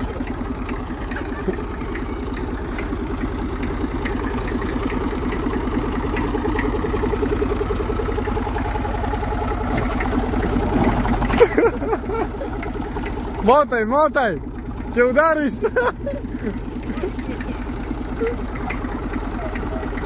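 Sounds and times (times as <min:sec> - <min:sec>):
old tractor engine running: 0:00.0 - 0:20.0.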